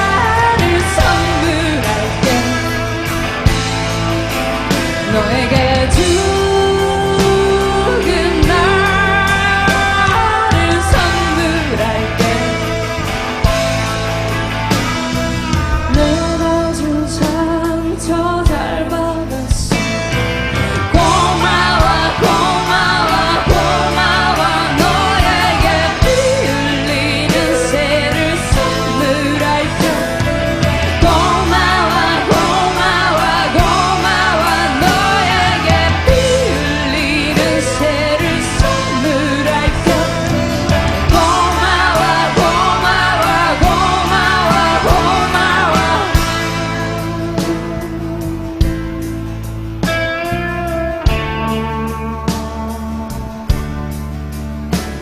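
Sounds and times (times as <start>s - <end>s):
live rock band: 0.0s - 55.0s.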